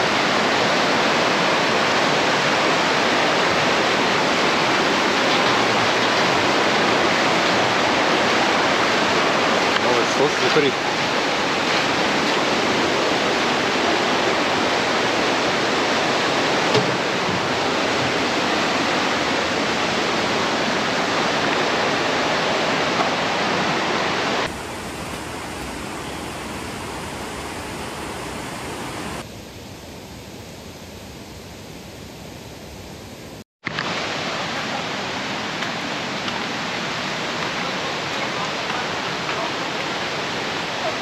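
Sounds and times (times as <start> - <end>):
rushing water hiss: 0.0 - 41.0.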